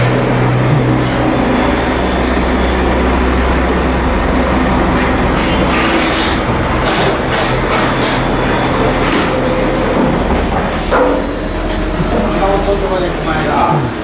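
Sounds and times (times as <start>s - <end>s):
machinery hum and rumble: 0.0s - 14.0s.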